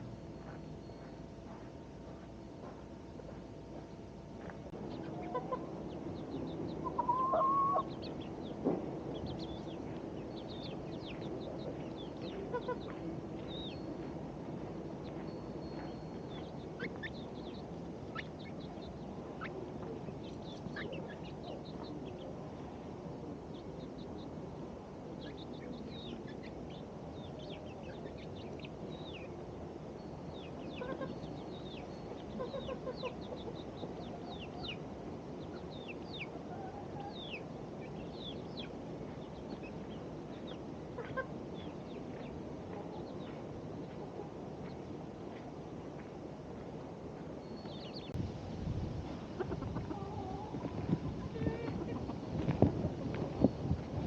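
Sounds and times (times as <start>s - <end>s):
small birds chirping: 0.0s - 48.2s
steady background hiss: 0.0s - 54.0s
chickens clucking: 4.4s - 22.9s, 25.1s - 29.7s, 30.4s - 46.1s, 49.1s - 54.0s.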